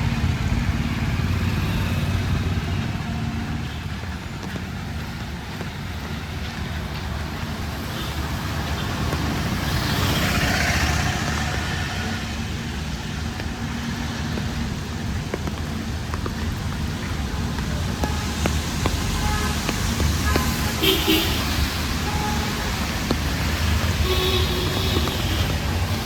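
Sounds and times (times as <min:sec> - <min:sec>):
traffic engine rumble: 0:00.0 - 0:26.0.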